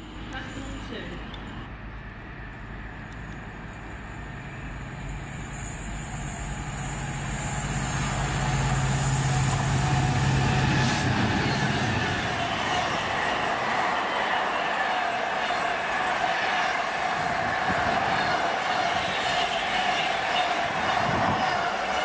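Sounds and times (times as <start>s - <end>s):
diesel locomotive engine drone: 0.0s - 22.0s
freight wagons rumbling past: 1.8s - 22.0s.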